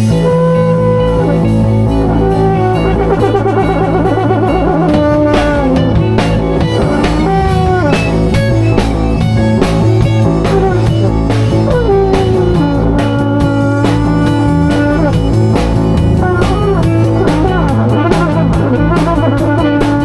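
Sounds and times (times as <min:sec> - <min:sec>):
drum kit keeping time: 0:00.0 - 0:20.0
electric guitar melody with bends: 0:00.0 - 0:20.0
sustained low bass notes: 0:00.0 - 0:20.0.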